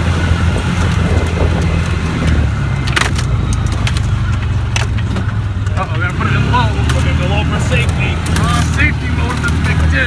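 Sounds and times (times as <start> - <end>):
utility vehicle engine running: 0.0 - 10.0
vehicle knocks and rattles: 0.6 - 10.0.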